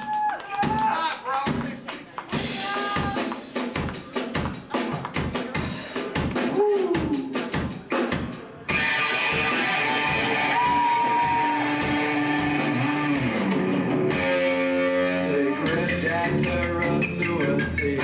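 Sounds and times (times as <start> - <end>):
rock band playing: 2.3 - 18.0.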